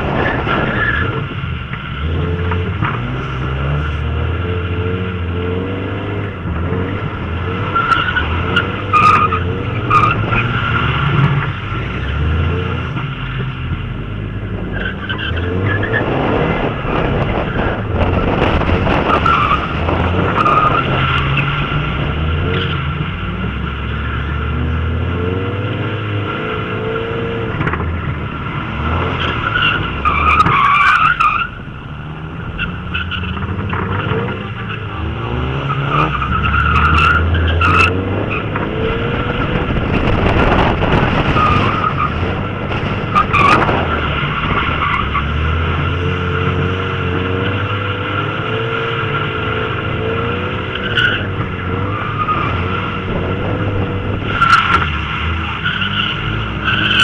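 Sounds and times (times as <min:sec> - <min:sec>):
tyres squealing and skidding: 0:00.0 - 0:13.5, 0:14.2 - 0:25.4, 0:28.0 - 0:57.0
car engine revving: 0:00.0 - 0:57.0.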